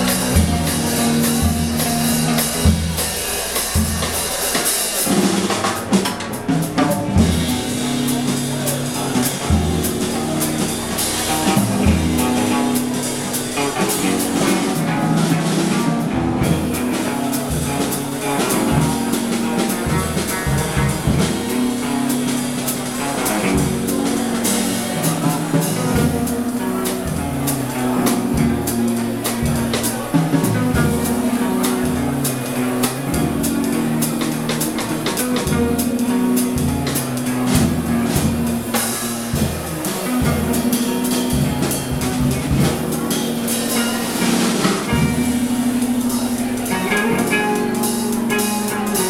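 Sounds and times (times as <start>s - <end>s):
drums and cymbals beat: 0.0s - 49.0s.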